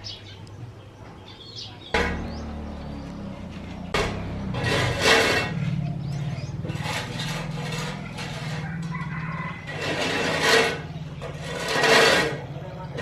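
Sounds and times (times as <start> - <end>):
rough rasping strokes: 2.0 - 13.0.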